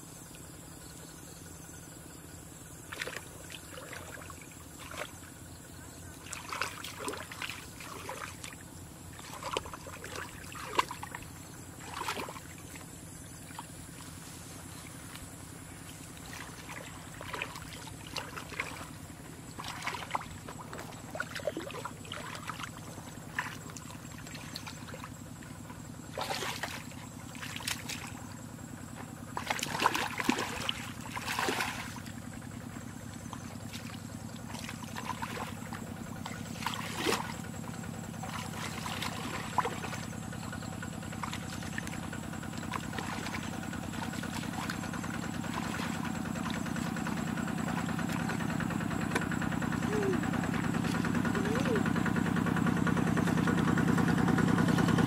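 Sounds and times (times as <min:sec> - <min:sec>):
faint low hum: 0:00.0 - 0:55.0
muddy water sloshing and splashing: 0:01.5 - 0:55.0
person wading through water: 0:02.8 - 0:55.0.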